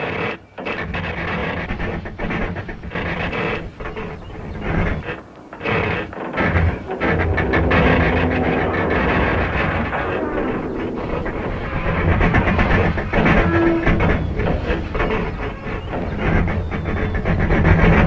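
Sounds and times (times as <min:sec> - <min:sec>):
metal creaking and groaning: 0:00.0 - 0:18.0.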